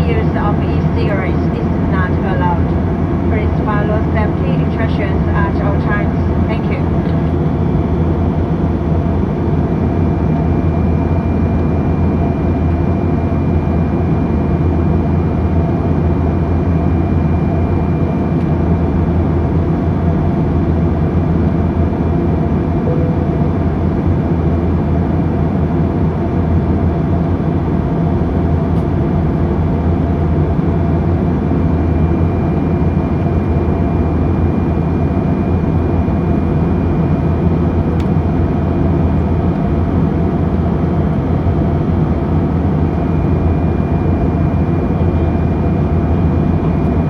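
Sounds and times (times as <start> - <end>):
airliner cabin drone: 0.0 - 47.0.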